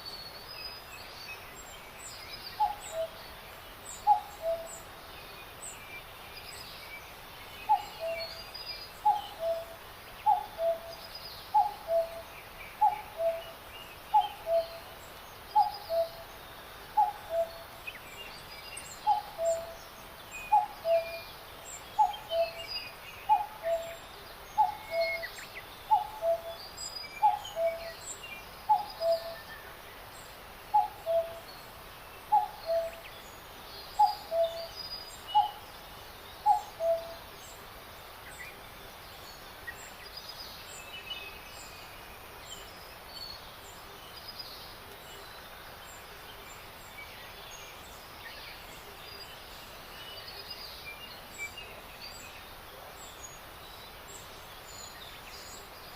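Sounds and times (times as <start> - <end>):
birds chirping and twittering: 0.0 - 55.9
steady hiss: 0.0 - 55.9.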